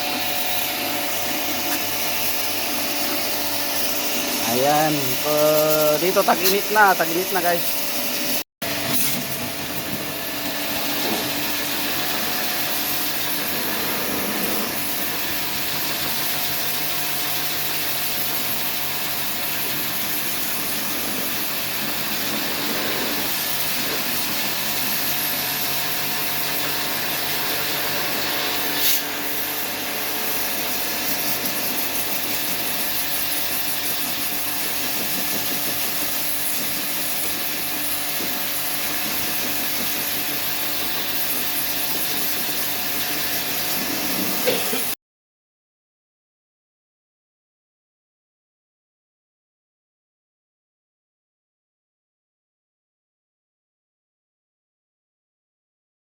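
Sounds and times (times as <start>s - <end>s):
motor and compressor hum: 0.0s - 45.0s.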